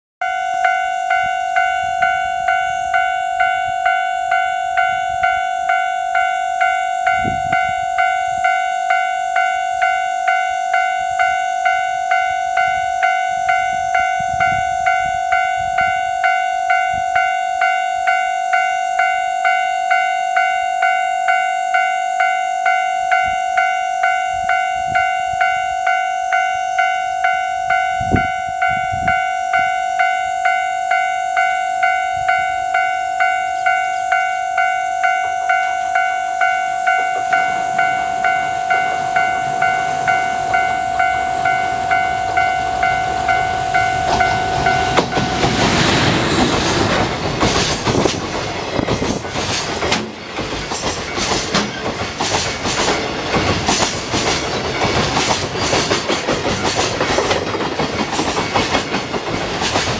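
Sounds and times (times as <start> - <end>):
level crossing warning bell: 0.2 - 59.9.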